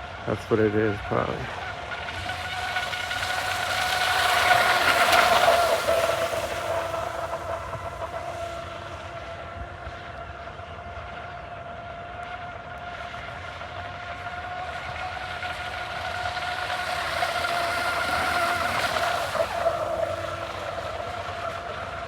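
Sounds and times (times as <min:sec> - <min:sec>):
toy boat motor whine: 0:00.0 - 0:22.0.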